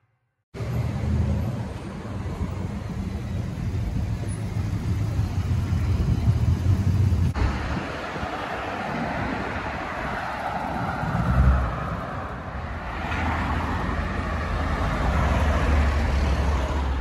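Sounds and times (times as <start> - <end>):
road noise of passing car: 0.6 - 17.0.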